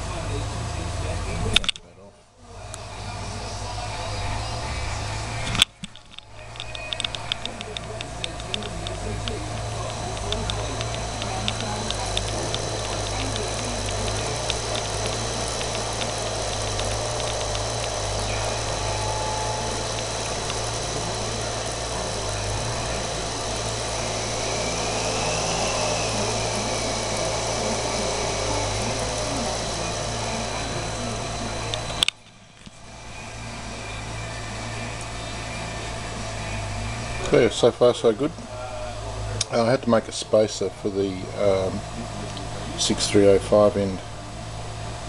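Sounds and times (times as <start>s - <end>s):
grinder spindle motor whine: 2.4s - 45.0s
light rapid ticking: 2.6s - 45.0s.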